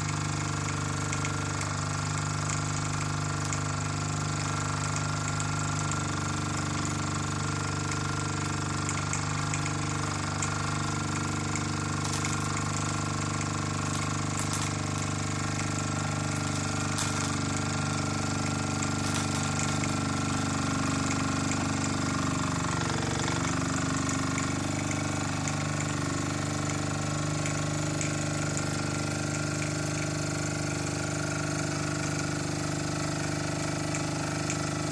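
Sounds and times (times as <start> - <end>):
toy steam engine buzzing: 0.0 - 34.9.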